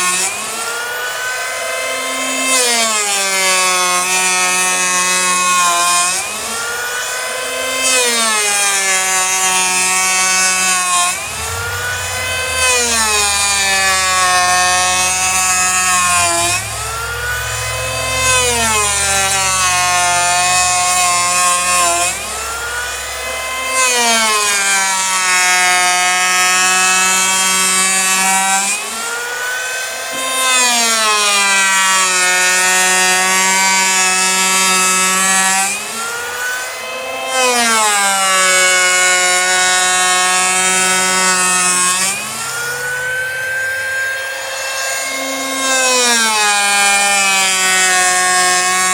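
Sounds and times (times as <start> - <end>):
electric power planer cutting wood: 0.0 - 48.9.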